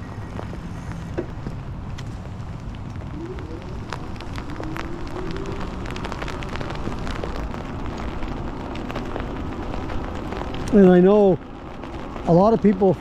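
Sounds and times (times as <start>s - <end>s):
raindrop ticks: 0.0s - 13.0s
tyre noise on wet pavement: 0.0s - 13.0s
wind buffeting microphone: 0.0s - 13.0s.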